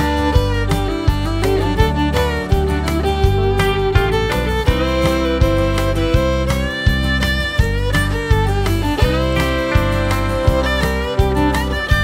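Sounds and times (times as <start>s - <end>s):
fiddle melody: 0.0s - 12.0s
steady bass beat: 0.0s - 12.0s.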